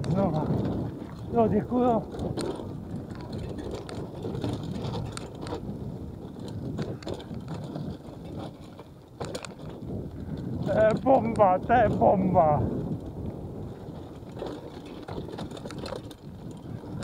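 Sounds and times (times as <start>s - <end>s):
bike knocks and rattles: 0.0s - 17.0s
tyre rumble on dirt: 0.0s - 17.0s.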